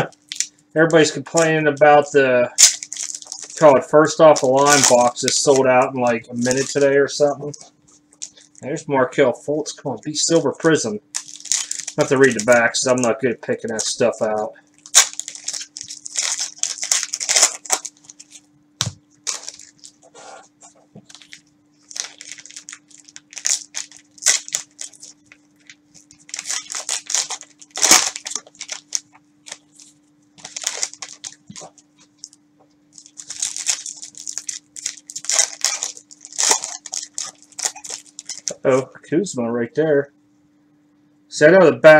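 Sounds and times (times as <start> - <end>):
plastic wrappers crinkling and tearing: 0.0 - 8.7, 9.9 - 38.8.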